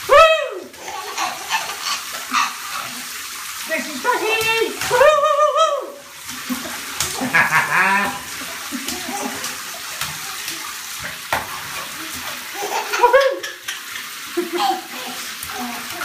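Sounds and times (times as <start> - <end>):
bath water splashing: 0.0 - 16.0.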